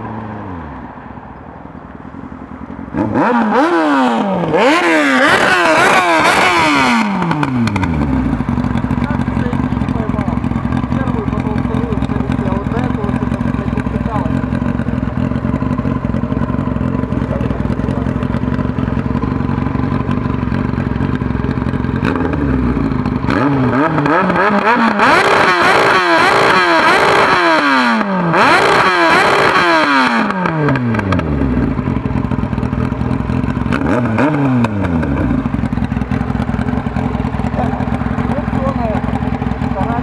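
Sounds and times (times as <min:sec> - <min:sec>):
motorcycle engine idling: 0:00.5 - 0:40.0
motorcycle engine revving: 0:02.0 - 0:40.0.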